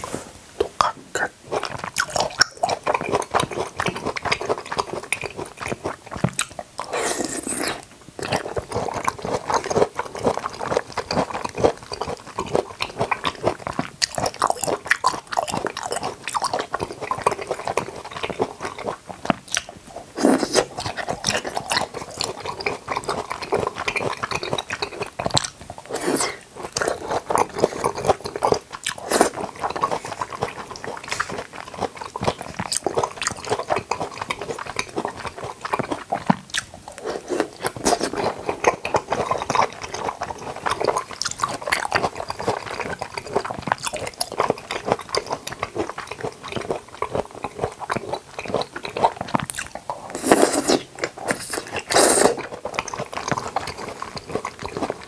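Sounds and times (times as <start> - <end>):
chewing with wet mouth clicks: 0.6 - 55.0.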